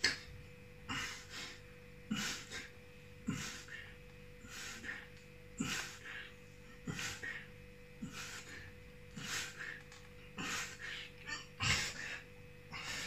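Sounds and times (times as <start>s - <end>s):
man breathing hard: 0.9s - 13.0s.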